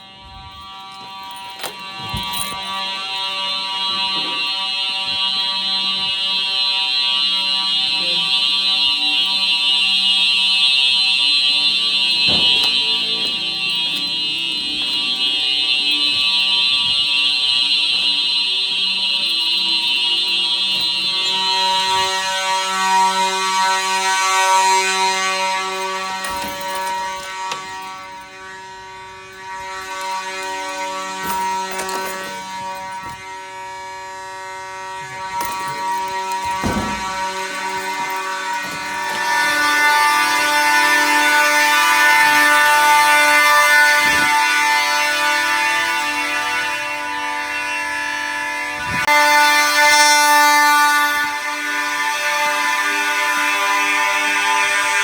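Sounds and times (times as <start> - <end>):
fire alarm horns: 0.0 - 55.0.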